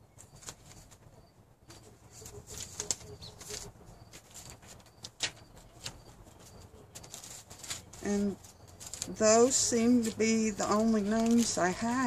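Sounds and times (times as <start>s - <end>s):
paper crinkle: 0.0s - 12.0s
paper rustling: 0.0s - 12.0s.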